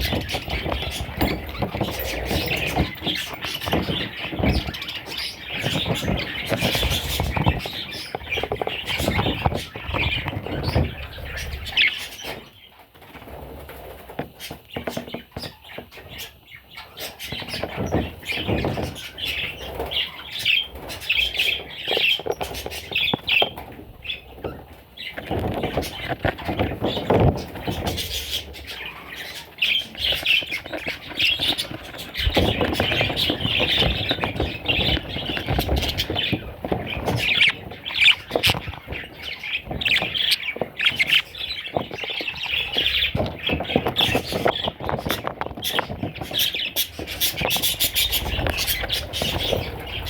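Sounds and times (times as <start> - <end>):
budgerigars chirping: 0.0 - 12.8, 14.4 - 50.0
rustling: 0.0 - 50.0
wings fluttering: 0.0 - 50.0.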